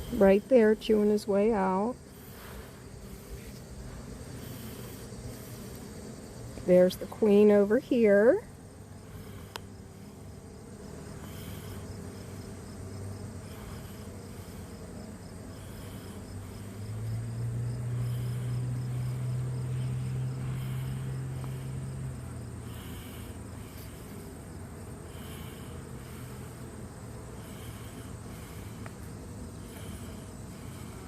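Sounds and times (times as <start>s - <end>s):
bees humming: 0.0s - 31.0s.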